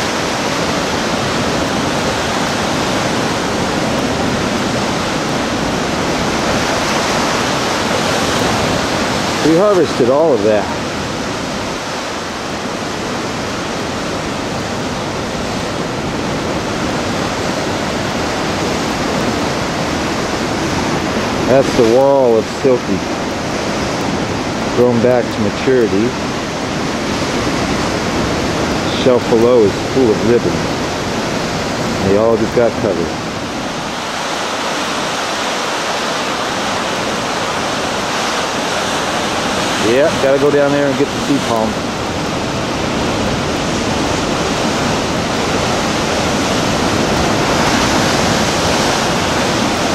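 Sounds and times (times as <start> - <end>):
ocean surf breaking on rocks: 0.0 - 49.9.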